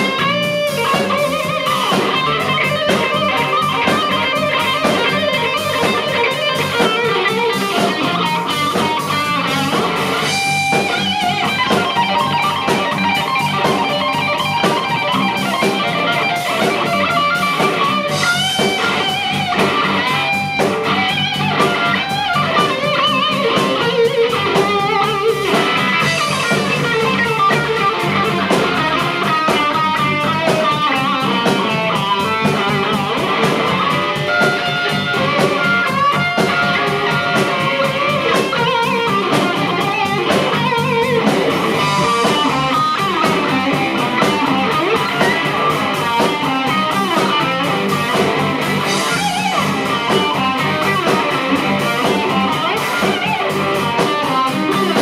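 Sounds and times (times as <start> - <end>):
live rock band playing: 0.0 - 55.0
overdriven electric guitar lead: 0.0 - 55.0.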